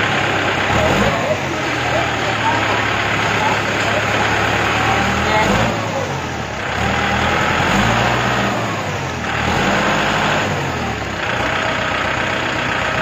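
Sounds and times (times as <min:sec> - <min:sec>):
tractor diesel engine revving: 0:00.0 - 0:13.0.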